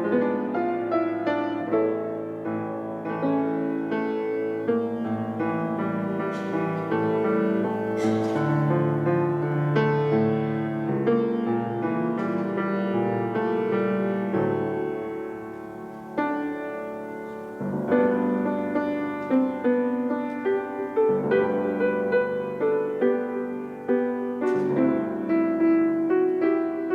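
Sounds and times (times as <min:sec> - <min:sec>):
piano playing slow chords: 0:00.0 - 0:26.9.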